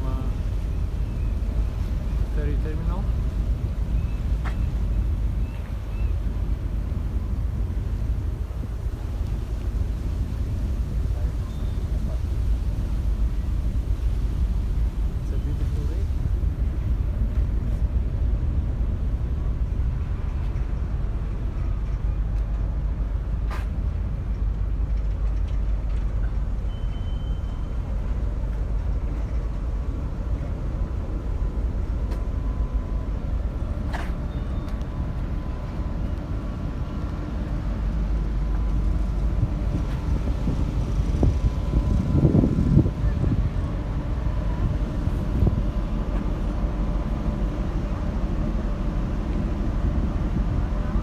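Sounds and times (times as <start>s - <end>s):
low rumble of ferry: 0.0s - 51.0s.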